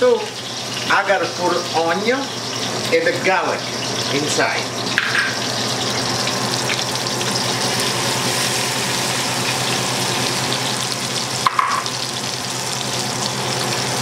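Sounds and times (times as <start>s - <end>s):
meat sizzling in hot oil: 0.0s - 14.0s.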